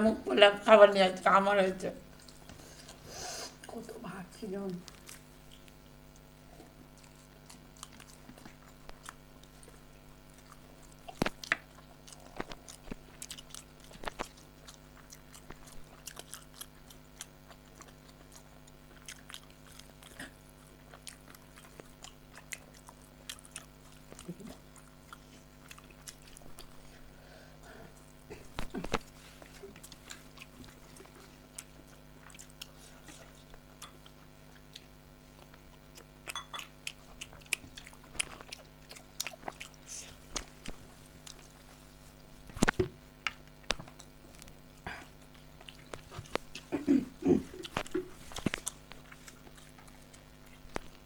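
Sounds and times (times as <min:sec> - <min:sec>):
steady low hum: 0:00.0 - 0:51.0
people chewing: 0:02.0 - 0:51.0.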